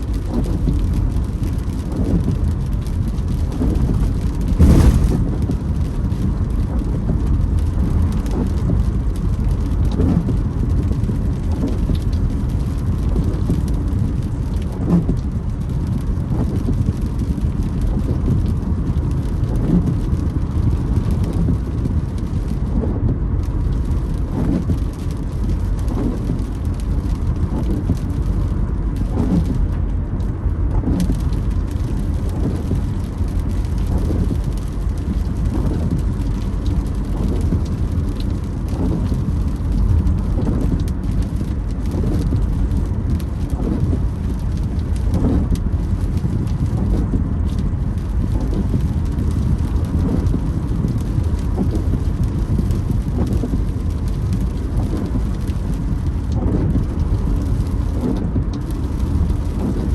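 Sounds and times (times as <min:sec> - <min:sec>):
low road rumble: 0:00.0 - 0:59.9
rain on a car: 0:00.0 - 0:59.9
windshield wipers creaking: 0:00.0 - 0:59.9.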